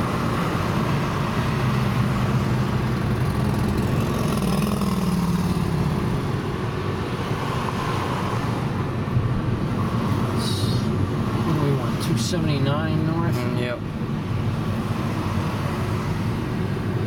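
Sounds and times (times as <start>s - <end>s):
road noise inside car: 0.0s - 17.0s.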